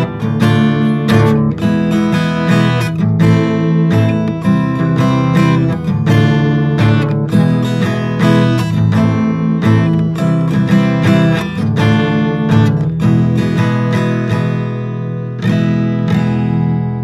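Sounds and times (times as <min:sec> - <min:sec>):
acoustic guitar instrumental: 0:00.0 - 0:17.0.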